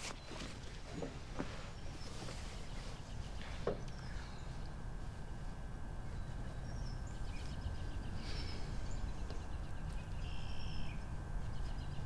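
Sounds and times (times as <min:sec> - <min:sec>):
low background rumble: 0:00.5 - 0:12.0
birds chirping and trilling: 0:01.4 - 0:04.7, 0:05.3 - 0:12.0.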